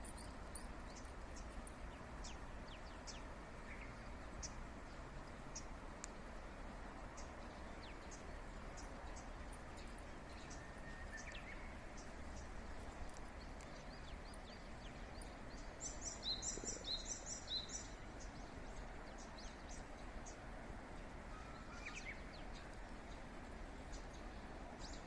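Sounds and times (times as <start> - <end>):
outdoor background hiss: 0.0 - 25.0
wild birds chirping: 0.0 - 25.0.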